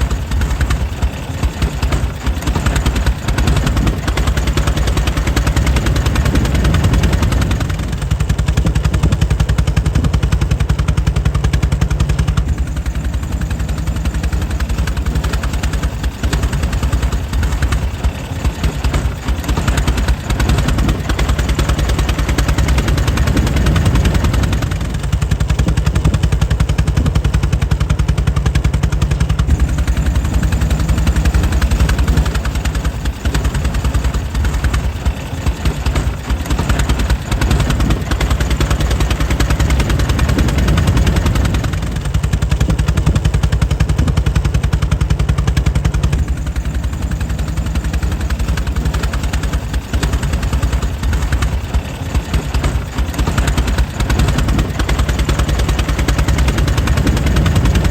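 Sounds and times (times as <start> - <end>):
engine running: 0.0 - 57.9.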